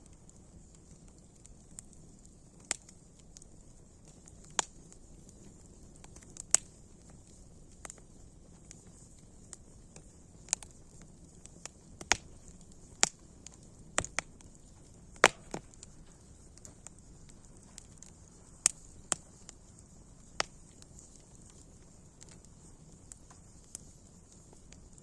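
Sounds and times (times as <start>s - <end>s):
faint steady hiss: 0.0s - 25.0s
wood fire crackling: 0.0s - 25.0s.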